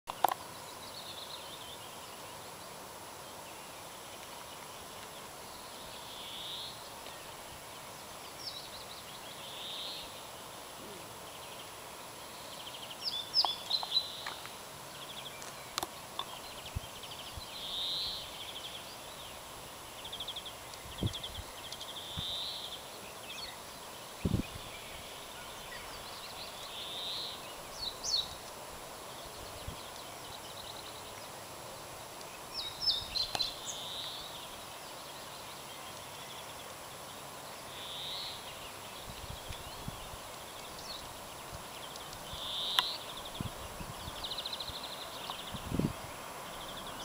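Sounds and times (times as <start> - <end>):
faint steady hiss: 0.1 - 47.0
small songbirds chirping and trilling: 0.1 - 47.0.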